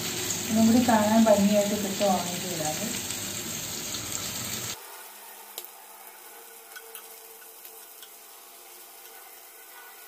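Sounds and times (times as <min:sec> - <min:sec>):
chicken sizzling in a pan: 0:00.0 - 0:10.0.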